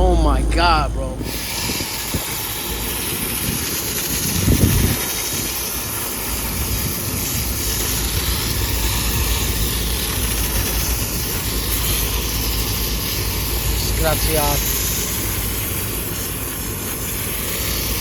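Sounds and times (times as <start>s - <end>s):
air conditioner fan blowing air: 0.0s - 18.0s.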